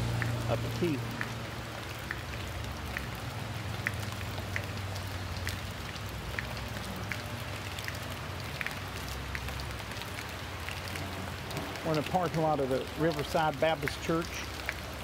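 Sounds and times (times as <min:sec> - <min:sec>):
flooded river rushing: 0:00.0 - 0:15.0.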